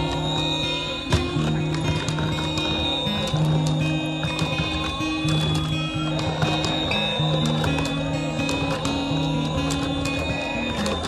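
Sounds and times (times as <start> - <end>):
electronic melody of low notes: 0.0 - 11.0.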